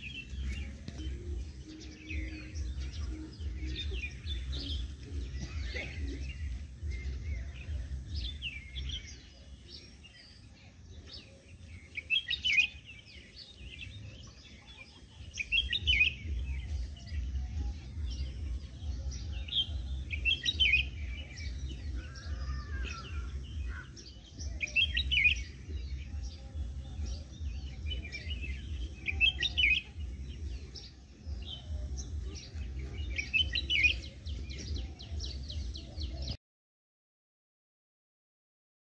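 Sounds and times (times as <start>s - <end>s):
small birds chirping: 0.0s - 36.4s.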